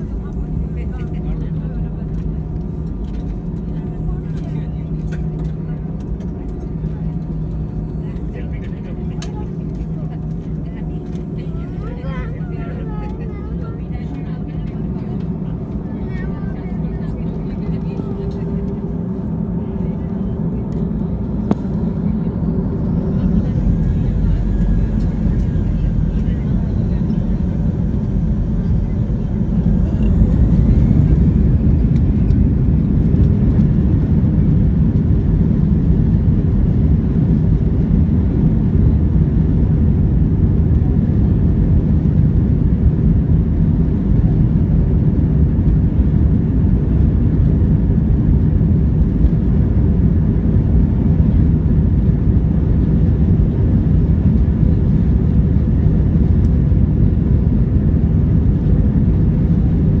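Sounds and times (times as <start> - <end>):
jet engine rumble in cabin: 0.0 - 60.0.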